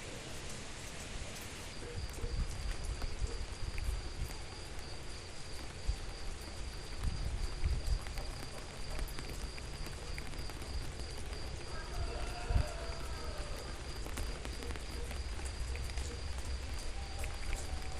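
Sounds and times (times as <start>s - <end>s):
small drips: 0.2s - 17.9s.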